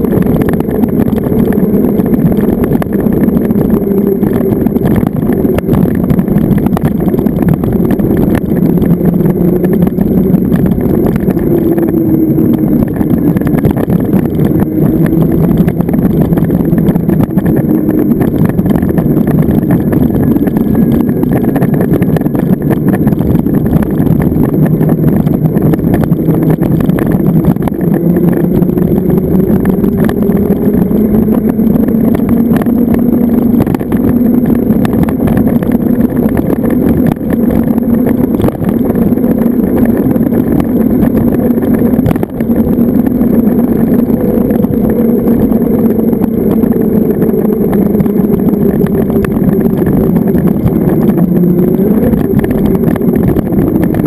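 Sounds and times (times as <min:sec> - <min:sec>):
electric motor hum: 0:00.0 - 0:54.0
wind and road noise: 0:00.0 - 0:54.0.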